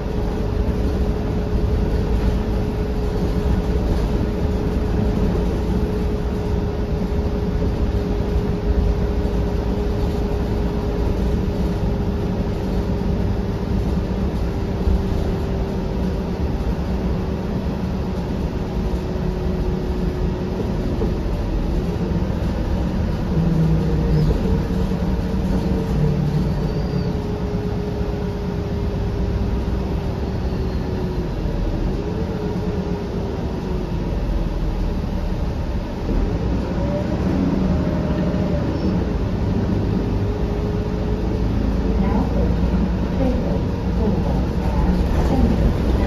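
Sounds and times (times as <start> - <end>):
bus engine rumble with whine: 0.0 - 46.0.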